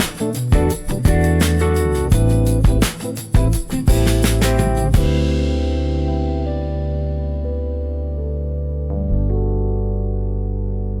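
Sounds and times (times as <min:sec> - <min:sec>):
lo-fi keyboard chords: 0:00.0 - 0:11.0.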